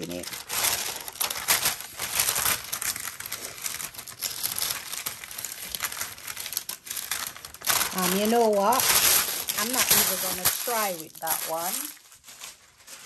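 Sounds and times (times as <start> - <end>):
paper sheets rustling and crinkling: 0.0 - 13.0.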